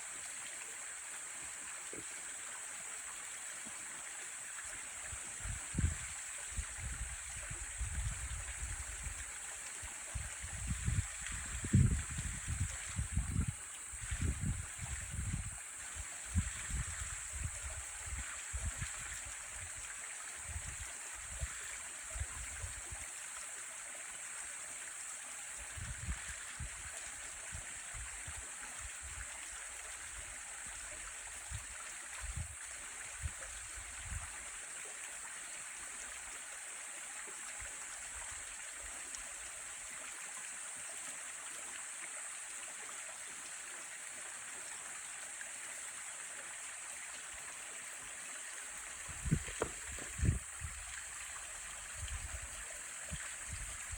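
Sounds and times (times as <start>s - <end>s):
stream flowing over rocks: 0.0s - 53.9s.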